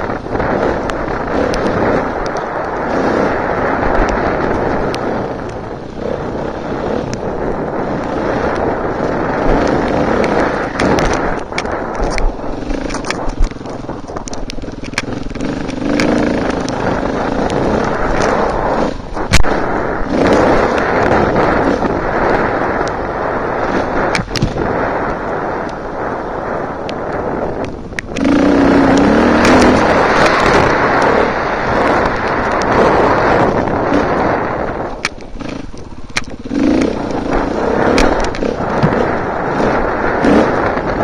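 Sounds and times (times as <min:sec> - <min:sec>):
knocks and clatter over rough ground: 0:00.0 - 0:25.9, 0:26.6 - 0:41.0
motorcycle engine running hard: 0:00.0 - 0:41.0.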